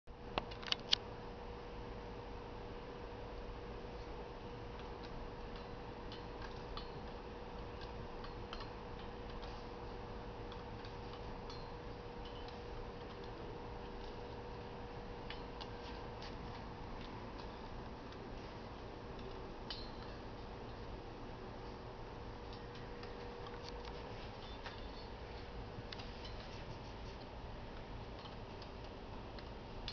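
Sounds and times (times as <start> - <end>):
steady hum: 0.1 - 29.9.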